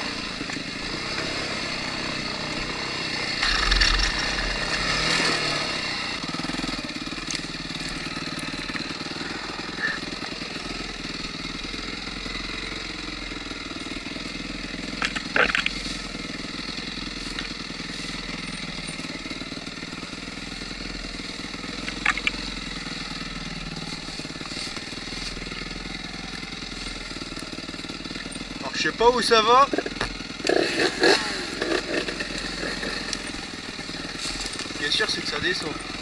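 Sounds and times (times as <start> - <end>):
motorbike engine at low revs: 0.0 - 36.0.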